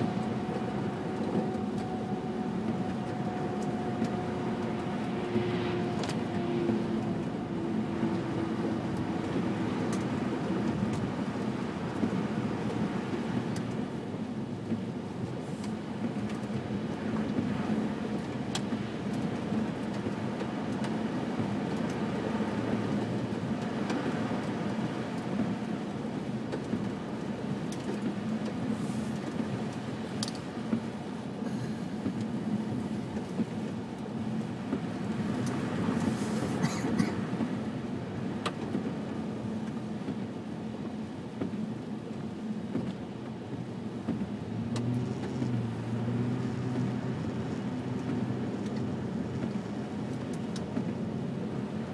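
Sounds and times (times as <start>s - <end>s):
car road and engine rumble: 0.0s - 51.9s
tyres on slushy road: 0.0s - 51.9s.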